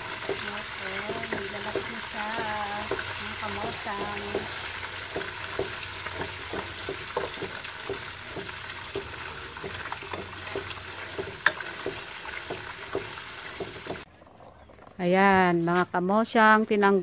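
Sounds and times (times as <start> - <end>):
frying sizzle with small pops: 0.0 - 14.1
spatula scraping pan: 0.0 - 14.1.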